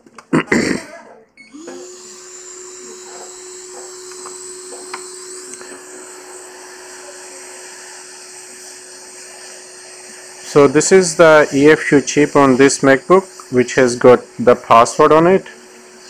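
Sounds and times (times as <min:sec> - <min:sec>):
hot air blower humming: 0:01.5 - 0:16.0.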